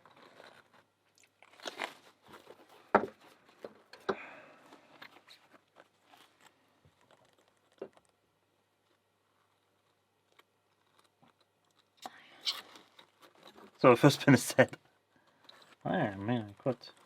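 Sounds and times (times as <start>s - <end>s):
rubber gloves crinkling and rubbing: 0.0s - 17.0s.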